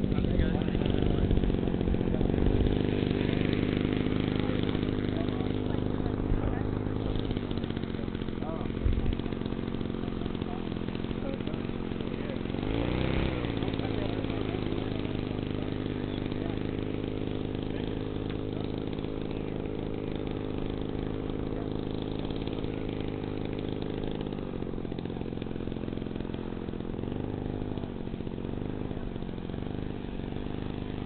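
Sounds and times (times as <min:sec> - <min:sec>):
model airplane engine idling: 0:00.0 - 0:31.0.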